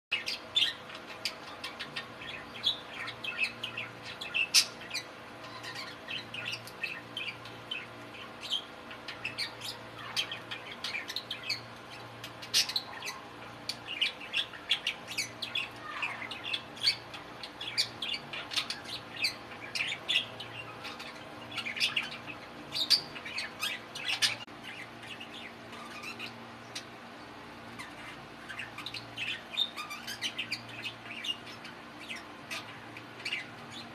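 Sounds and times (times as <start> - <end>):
budgerigars chattering and warbling: 0.1 - 27.1, 27.7 - 33.9.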